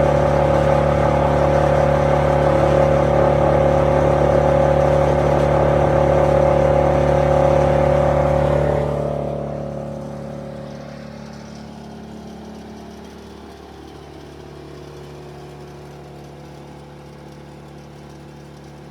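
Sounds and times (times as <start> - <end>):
wood chipper diesel engine running: 0.0 - 18.9.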